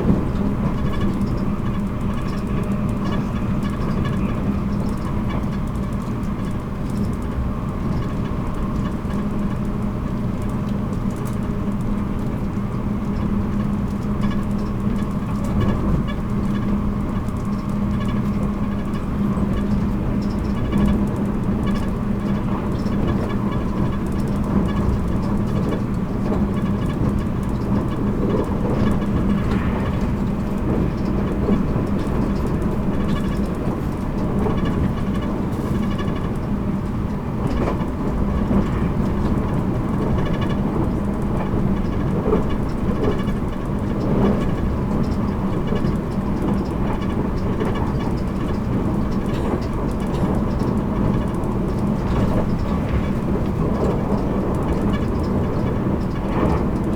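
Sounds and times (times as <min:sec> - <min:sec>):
constant low hum: 0:00.0 - 0:56.9
train wheels rumbling: 0:00.0 - 0:56.9.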